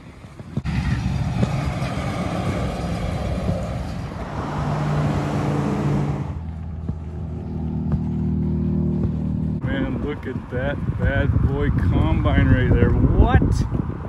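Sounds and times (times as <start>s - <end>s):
broad rushing noise: 0.0s - 14.0s
vehicle engine running: 0.2s - 13.0s.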